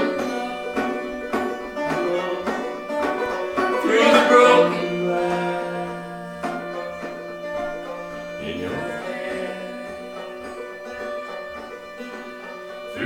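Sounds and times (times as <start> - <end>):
banjo picking: 0.0 - 13.0
fiddle bowing: 0.0 - 13.0.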